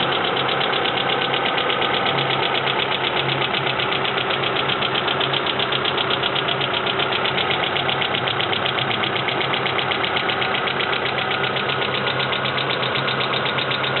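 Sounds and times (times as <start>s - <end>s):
car engine idling: 0.0s - 14.0s
valve lifters ticking: 0.0s - 14.0s.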